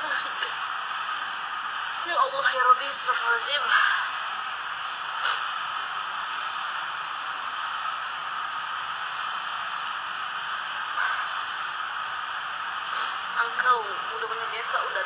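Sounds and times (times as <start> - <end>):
steady static hiss: 0.0 - 15.0.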